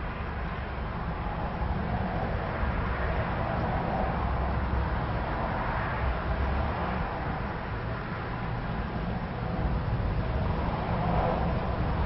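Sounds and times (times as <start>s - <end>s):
ceiling fan whooshing: 0.0s - 12.0s.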